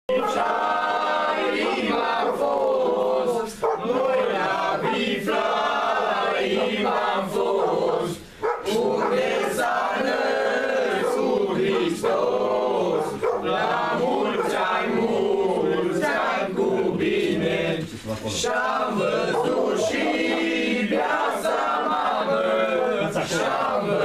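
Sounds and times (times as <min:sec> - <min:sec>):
men singing together: 0:00.1 - 0:24.0.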